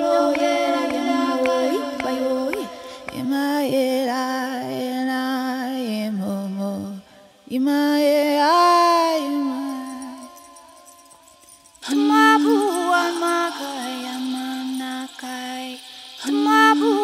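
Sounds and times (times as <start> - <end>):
chant-like singing: 0.0 - 10.4, 11.8 - 17.0.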